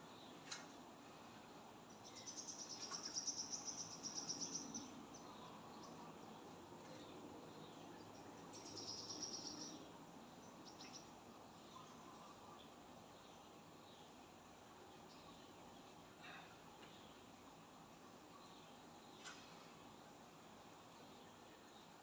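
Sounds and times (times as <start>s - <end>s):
faint outdoor background: 0.0s - 22.0s.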